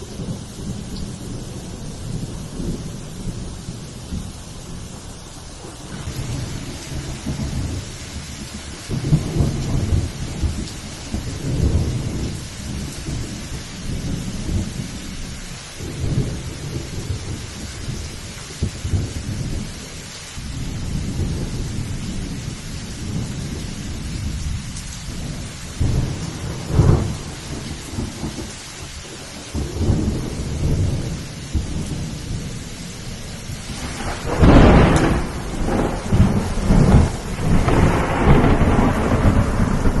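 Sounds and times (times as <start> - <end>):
rain hissing: 0.0 - 40.0
rolling thunder: 0.0 - 40.0.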